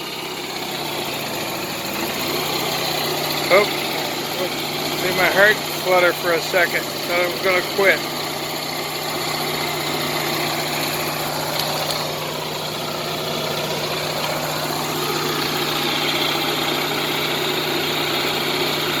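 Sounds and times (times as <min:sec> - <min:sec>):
generator humming: 0:00.0 - 0:19.0.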